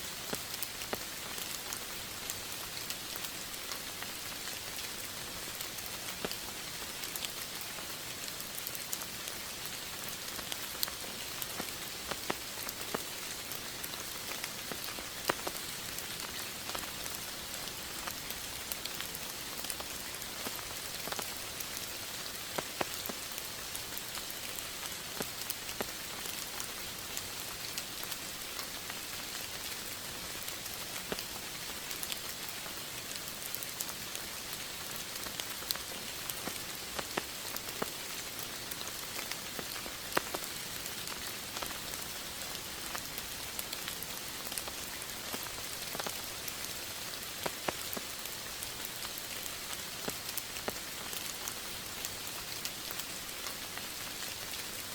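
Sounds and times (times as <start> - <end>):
steady rain hiss: 0.0 - 54.9
raindrops tapping a surface: 0.2 - 54.8.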